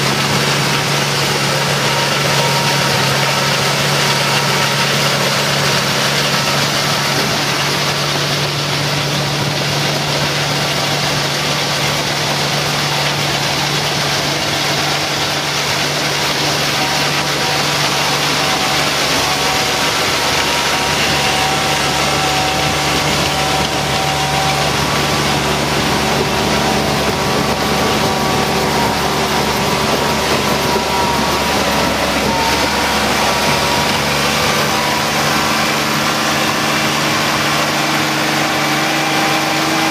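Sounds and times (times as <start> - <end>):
harvester engine humming: 0.0 - 39.9.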